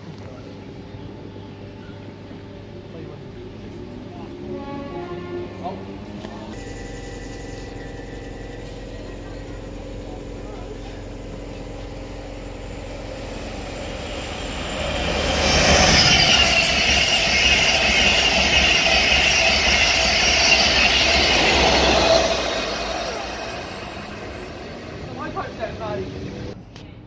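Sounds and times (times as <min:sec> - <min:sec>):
train passing at speed: 0:02.2 - 0:26.7.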